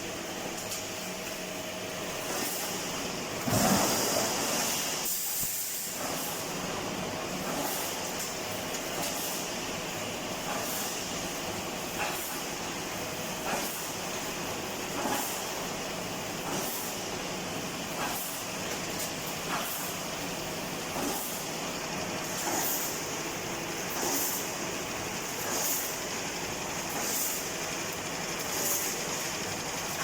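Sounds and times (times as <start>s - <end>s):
welding machine running: 0.0s - 30.0s.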